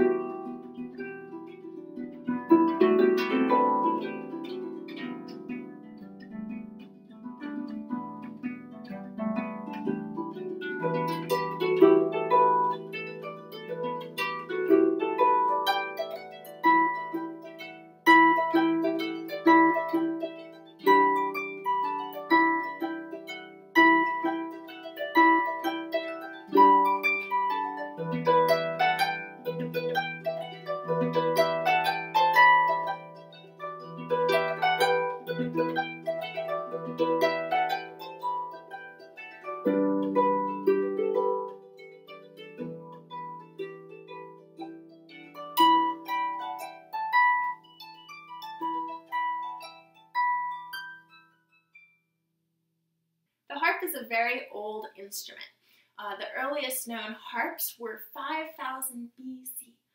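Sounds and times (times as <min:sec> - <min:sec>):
harp plucked melody: 0:00.0 - 0:52.0.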